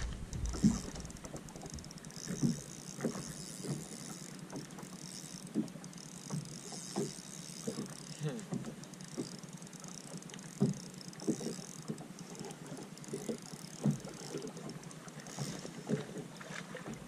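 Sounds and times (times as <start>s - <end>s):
waves slapping against boat hull: 0.0s - 9.4s, 10.0s - 17.0s
wind and water hiss: 0.0s - 17.0s.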